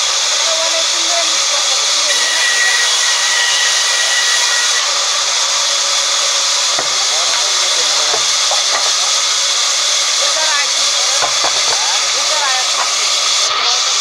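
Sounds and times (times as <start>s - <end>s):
band saw cutting timber: 0.0s - 14.0s.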